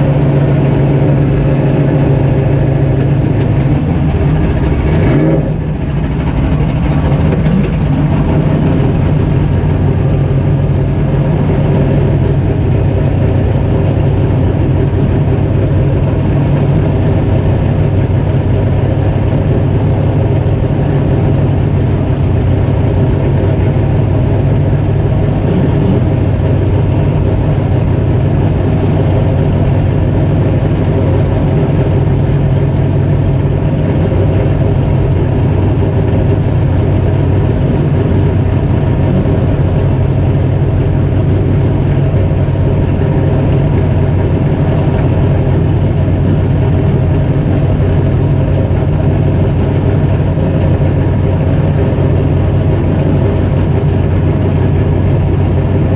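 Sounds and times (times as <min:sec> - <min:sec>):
truck engine running at low revs: 0:00.0 - 0:55.9.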